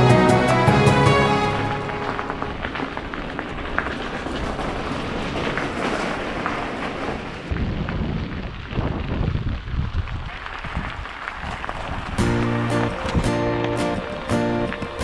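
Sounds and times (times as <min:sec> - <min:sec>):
bike tyres crunching on gravel: 0:01.5 - 0:15.0
wind rumble on microphone: 0:02.4 - 0:15.0.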